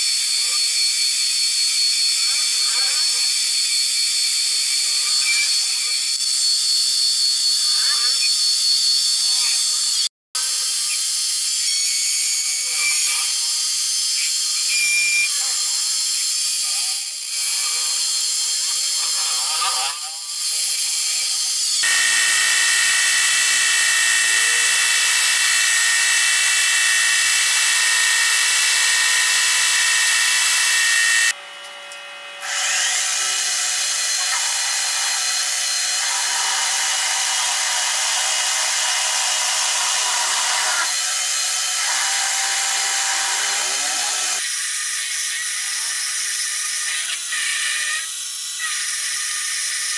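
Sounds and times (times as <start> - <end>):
metal lathe whining: 0.0 - 49.9.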